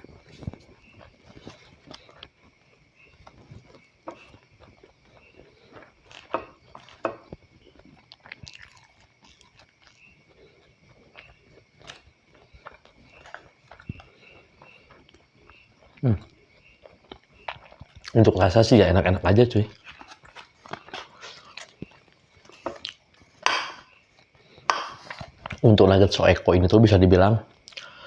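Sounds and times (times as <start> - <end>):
person chewing and crunching food: 0.0 - 25.7, 27.5 - 28.0.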